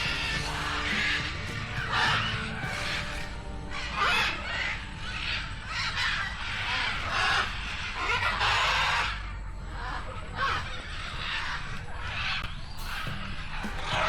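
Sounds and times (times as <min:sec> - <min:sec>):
birds harsh raspy calls: 0:00.0 - 0:14.0.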